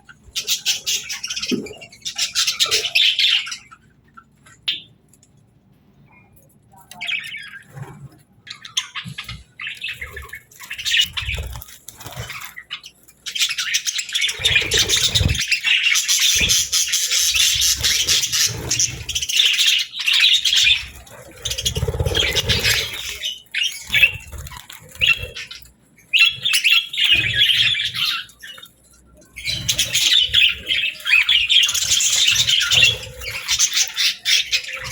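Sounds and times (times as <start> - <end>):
budgerigars chattering and squawking: 0.0 - 4.9, 6.9 - 34.9.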